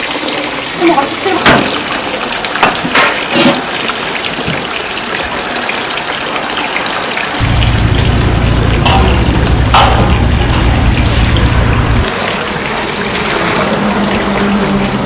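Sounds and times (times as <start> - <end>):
running water gushing: 0.0 - 15.0.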